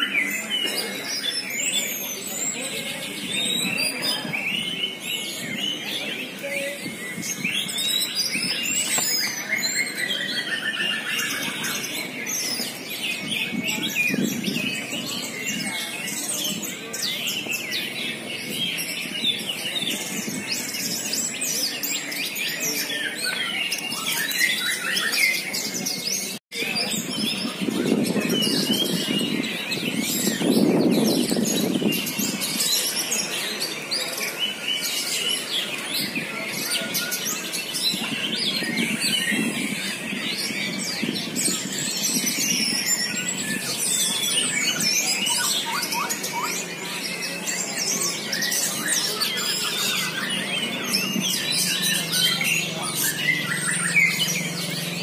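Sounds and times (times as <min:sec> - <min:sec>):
human voices: 0:00.0 - 0:55.0
songbirds singing and chirping: 0:00.0 - 0:55.0.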